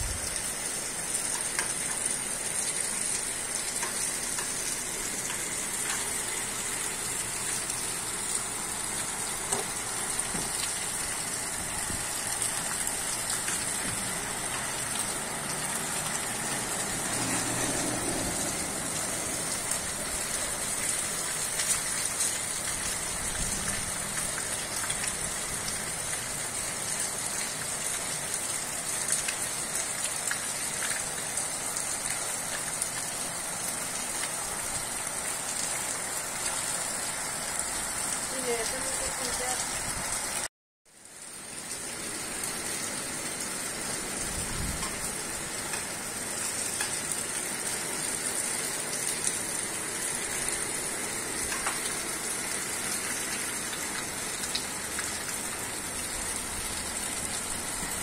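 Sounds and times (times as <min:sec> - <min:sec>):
rain falling on wet street: 0:00.0 - 0:58.0.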